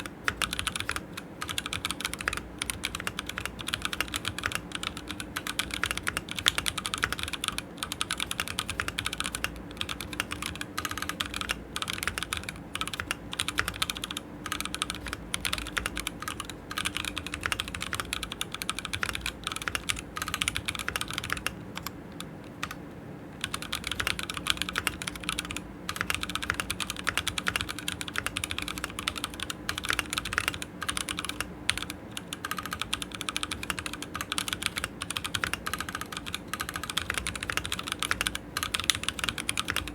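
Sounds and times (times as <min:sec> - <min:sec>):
fast mechanical keyboard typing: 0:00.0 - 0:22.8, 0:23.4 - 0:39.9.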